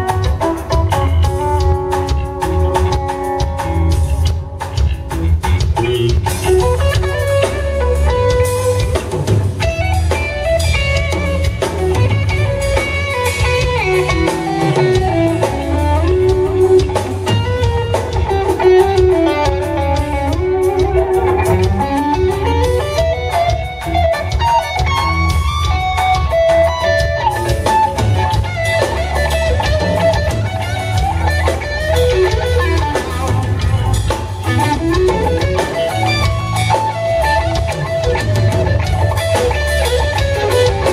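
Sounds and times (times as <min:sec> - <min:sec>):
bass and drums: 0:00.0 - 0:40.9
electric guitar lead melody: 0:00.0 - 0:40.9.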